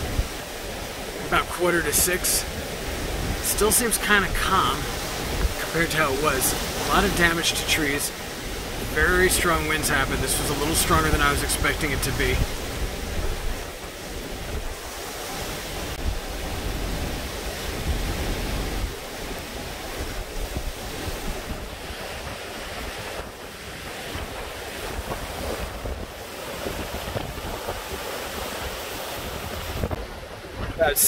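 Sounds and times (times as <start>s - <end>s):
wind gusting on microphone: 0.0s - 31.0s.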